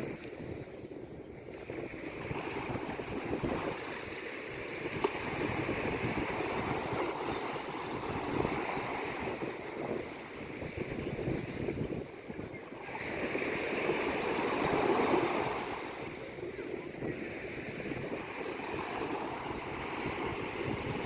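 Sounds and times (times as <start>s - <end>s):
sea waves washing in: 0.0s - 21.0s.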